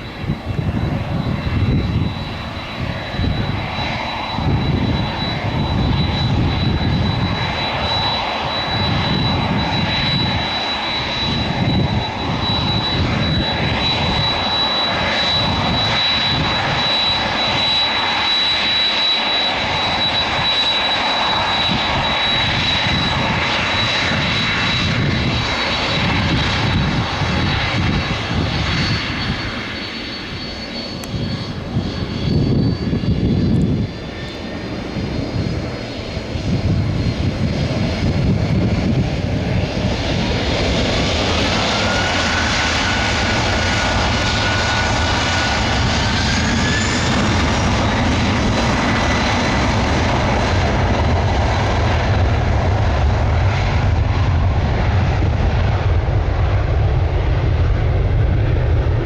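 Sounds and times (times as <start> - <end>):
engine fan whine: 0.0 - 59.0
jet engines at takeoff: 0.0 - 59.0.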